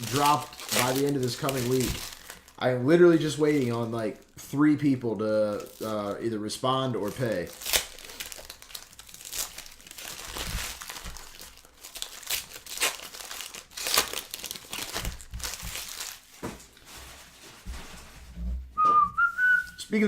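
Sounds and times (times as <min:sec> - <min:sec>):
plastic wrappers crinkling and tearing: 0:00.0 - 0:18.2.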